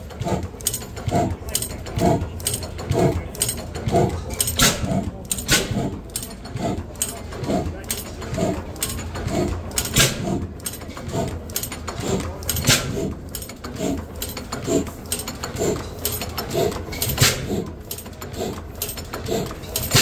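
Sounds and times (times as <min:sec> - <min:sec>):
gas engine running slowly: 0:00.0 - 0:20.0.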